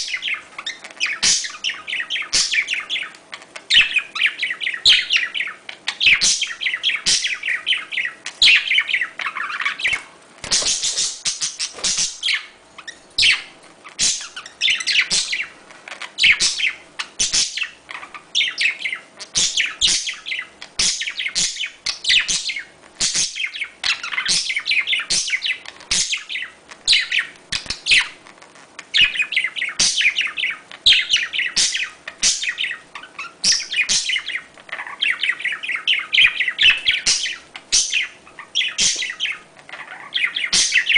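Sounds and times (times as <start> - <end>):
budgerigars chattering and warbling: 0.0 - 28.2, 28.9 - 40.9.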